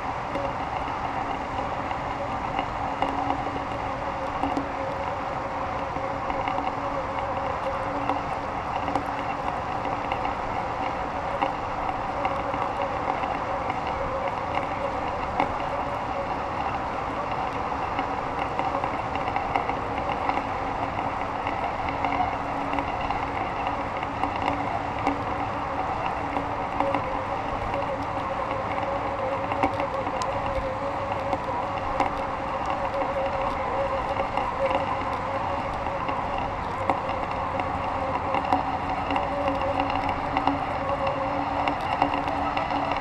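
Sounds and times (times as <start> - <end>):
faint steady hum: 0.0 - 43.0
wind noise on camera: 0.0 - 43.0.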